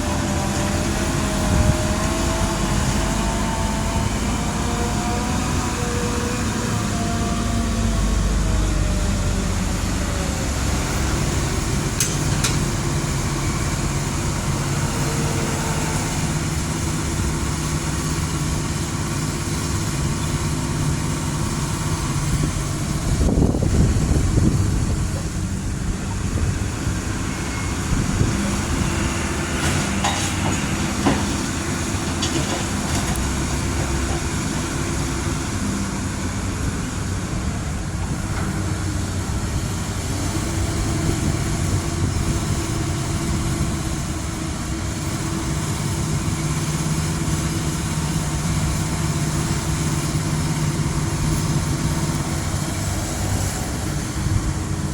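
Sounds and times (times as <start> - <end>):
diesel truck engine rumble: 0.0 - 54.9
trailers rattling: 0.0 - 54.9.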